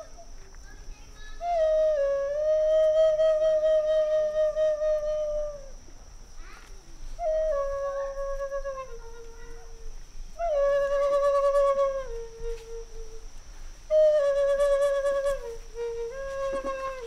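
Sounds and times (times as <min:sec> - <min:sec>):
wooden flute playing: 0:00.0 - 0:00.3, 0:01.4 - 0:05.7, 0:07.2 - 0:13.3, 0:13.9 - 0:17.0.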